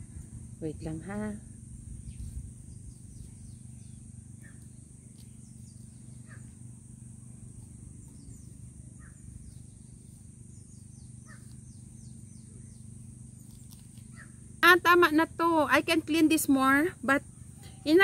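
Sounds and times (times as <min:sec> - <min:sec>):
low hum: 0:00.0 - 0:18.0
birds chirping: 0:00.8 - 0:18.0.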